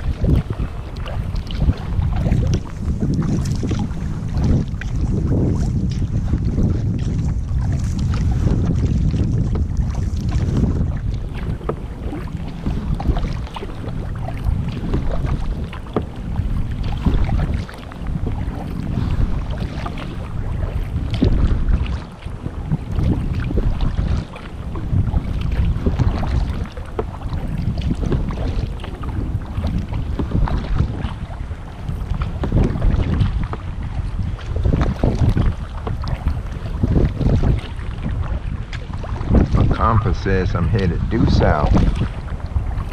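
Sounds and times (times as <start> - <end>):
paddle splashing through water: 0.0 - 42.9
wind buffeting microphone: 0.0 - 42.9.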